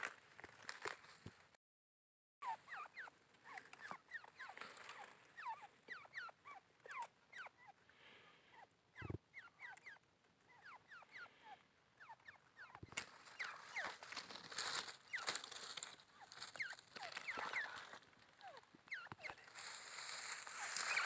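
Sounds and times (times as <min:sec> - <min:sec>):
small birds chirping: 0:02.4 - 0:21.0.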